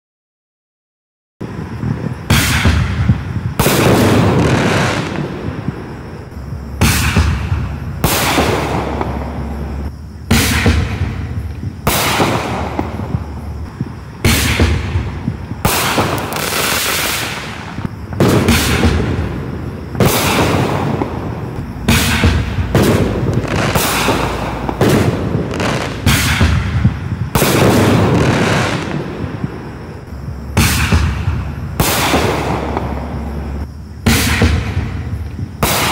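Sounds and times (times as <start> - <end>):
firework shells banging: 1.5 - 35.9.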